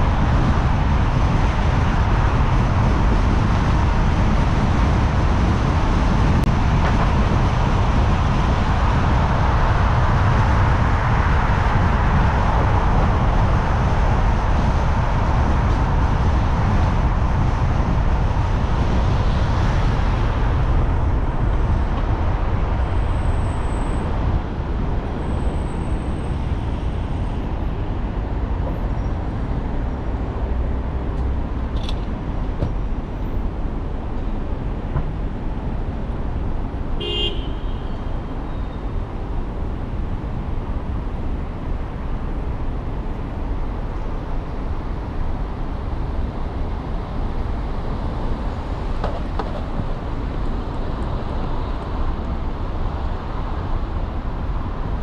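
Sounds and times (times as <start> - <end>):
road and traffic noise: 0.0 - 55.0.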